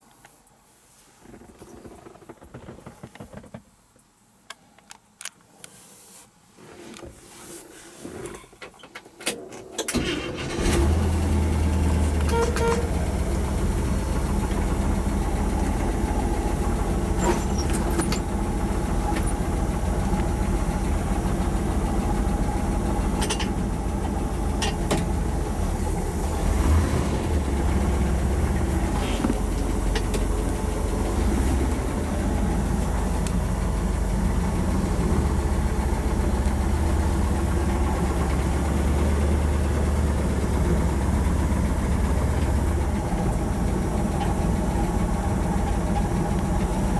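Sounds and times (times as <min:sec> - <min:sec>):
truck engine starting and idling: 0:08.6 - 0:46.9.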